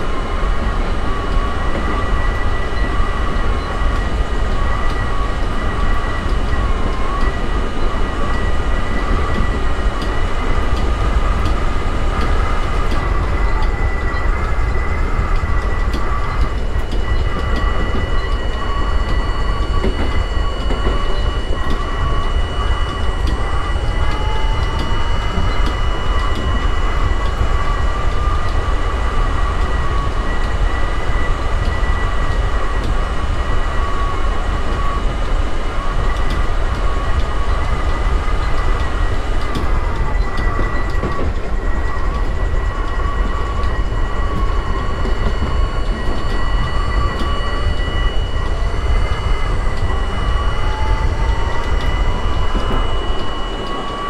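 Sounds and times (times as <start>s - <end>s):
subway train rumbling on rails: 0.0s - 54.0s
train motor whine: 0.0s - 54.0s.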